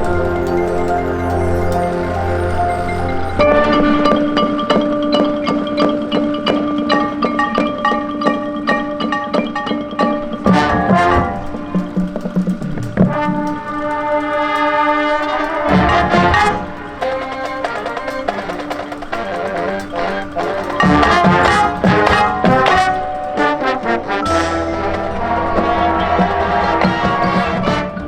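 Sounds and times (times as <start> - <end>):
brass chords: 0.0 - 28.0
drum and mallet percussion strikes: 0.0 - 28.0
marching band playing: 0.0 - 28.0.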